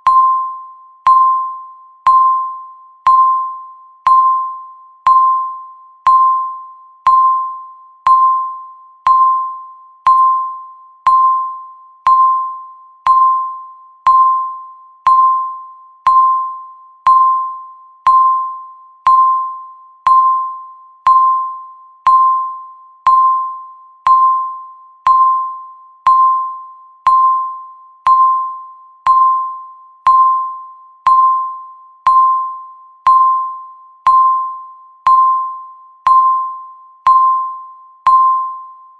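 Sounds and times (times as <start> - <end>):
electronic timer beeps: 0.0 - 38.9.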